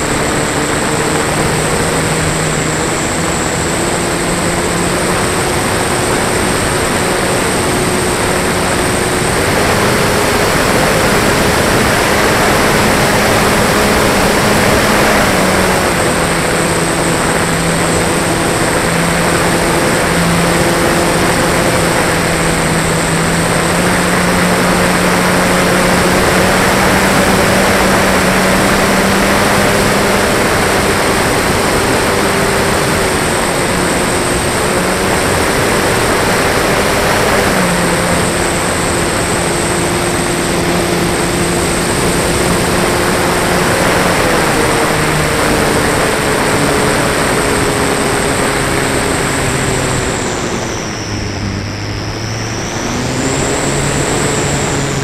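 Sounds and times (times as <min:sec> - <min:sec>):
electric motor and propeller whine: 0:00.0 - 0:55.0.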